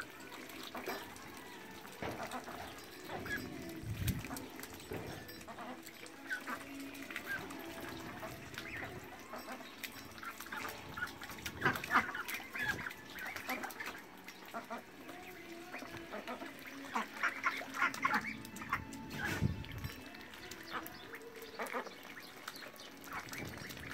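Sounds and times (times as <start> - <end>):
ducks quacking: 0.6 - 1.2, 2.0 - 23.9.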